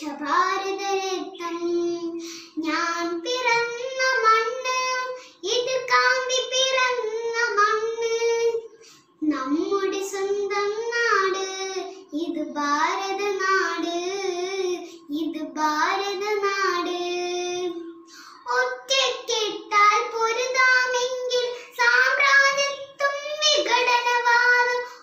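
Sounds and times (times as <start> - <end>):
girl singing unaccompanied: 0.0 - 25.0.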